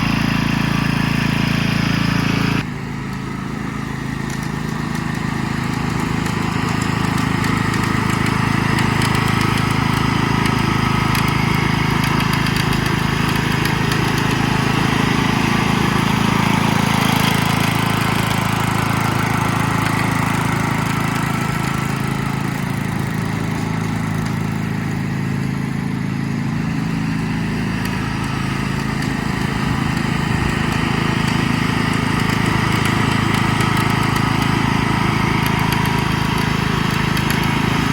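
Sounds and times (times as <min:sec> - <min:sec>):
ride-on mower engine running: 0:00.0 - 0:37.9.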